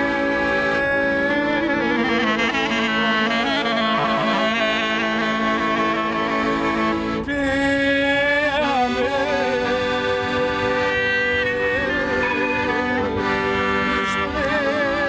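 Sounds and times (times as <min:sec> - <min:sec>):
melody of long held notes: 0:00.0 - 0:15.0
sustained chords: 0:00.0 - 0:15.0.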